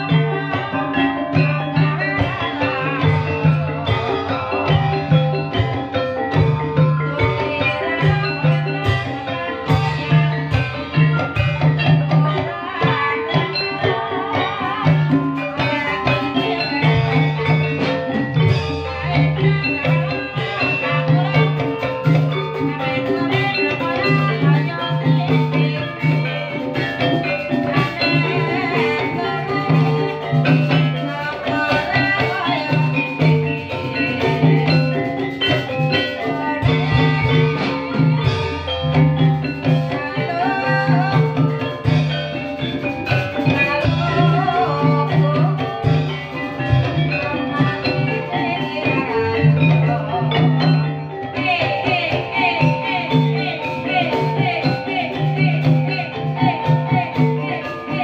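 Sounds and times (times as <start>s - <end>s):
drums: 0.0s - 58.0s
gamelan music: 0.0s - 58.0s
metal-keyed percussion melody: 0.0s - 58.0s.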